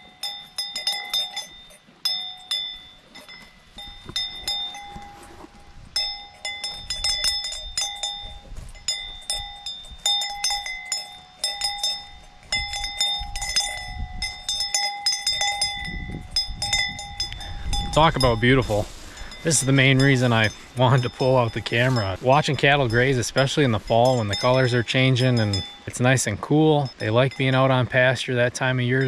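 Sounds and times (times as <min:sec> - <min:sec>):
cowbell clanking: 0:00.0 - 0:29.0.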